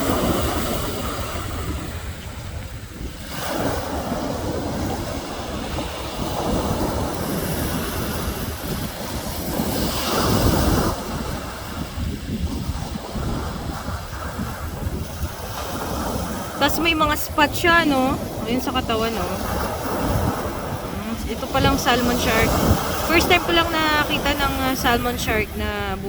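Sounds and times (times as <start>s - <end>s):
waves washing: 0.0s - 26.0s
wind buffeting microphone: 0.0s - 26.0s.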